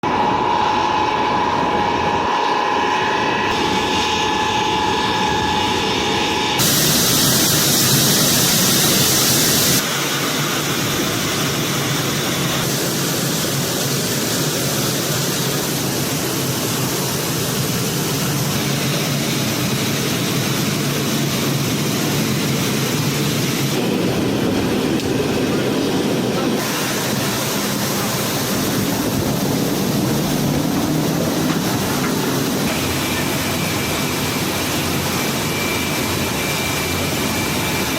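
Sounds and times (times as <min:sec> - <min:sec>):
jet engines running with whine: 0:00.0 - 0:37.9.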